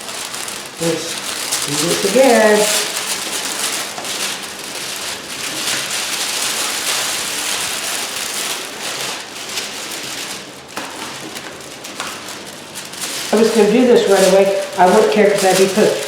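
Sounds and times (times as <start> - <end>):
thin sheet crinkling and rustling: 0.0 - 16.0.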